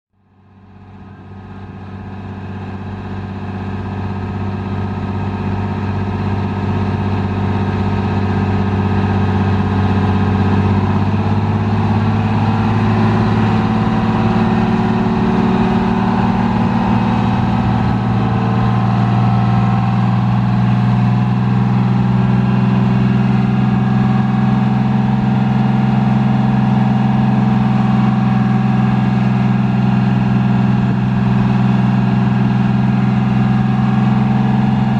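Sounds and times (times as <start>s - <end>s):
diesel bus engine running: 0.2s - 34.9s.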